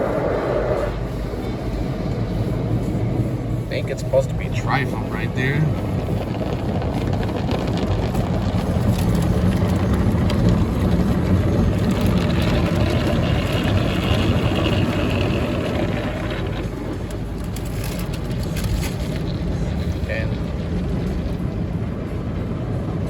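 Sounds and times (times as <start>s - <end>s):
car wash equipment rushing: 0.0s - 23.0s.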